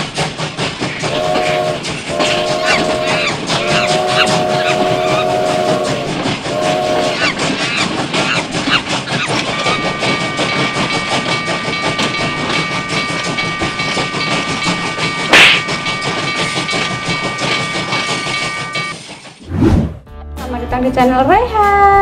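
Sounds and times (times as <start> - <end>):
fast clatter of train clicks: 0.0 - 19.4.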